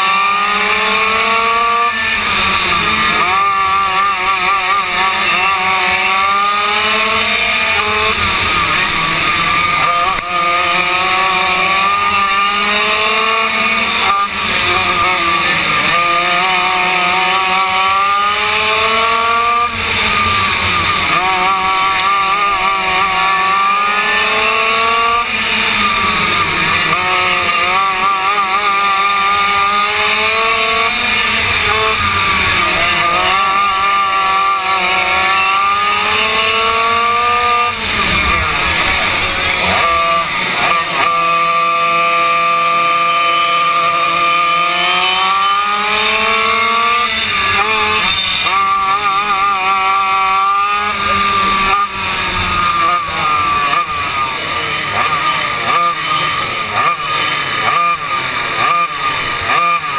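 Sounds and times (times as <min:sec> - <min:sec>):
kart engine racing: 0:00.0 - 0:59.9
other kart engines: 0:00.0 - 0:59.9.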